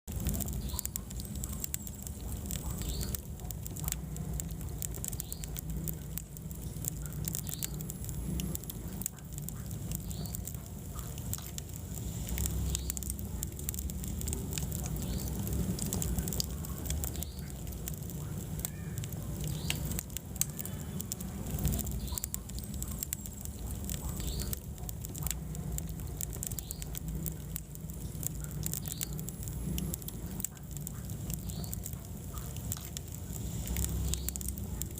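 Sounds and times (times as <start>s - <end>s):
low rumble of flames: 0.0s - 34.9s
wood fire pops: 0.1s - 34.9s.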